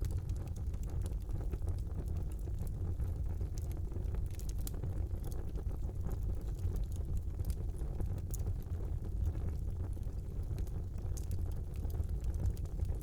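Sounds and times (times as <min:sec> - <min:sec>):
open fire crackling in fireplace: 0:00.0 - 0:13.0.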